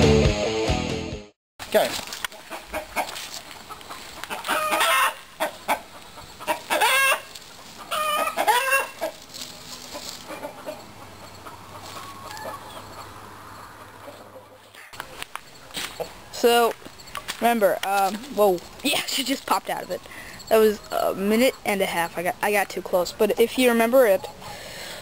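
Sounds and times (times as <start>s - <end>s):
chickens clucking: 2.2s - 25.0s.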